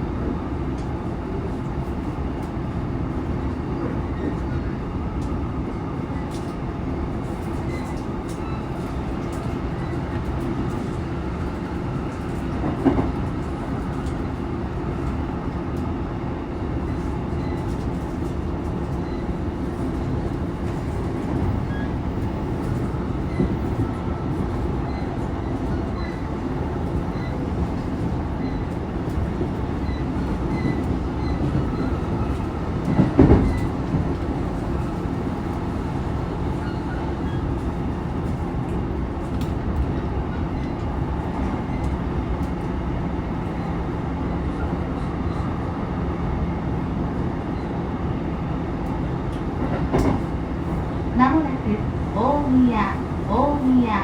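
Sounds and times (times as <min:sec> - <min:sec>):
train wheels rolling on rail: 0:00.7 - 0:54.0.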